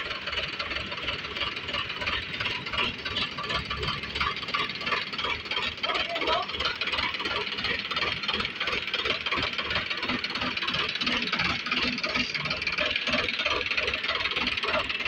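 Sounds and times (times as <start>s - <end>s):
engine thudding: 0.0s - 15.0s.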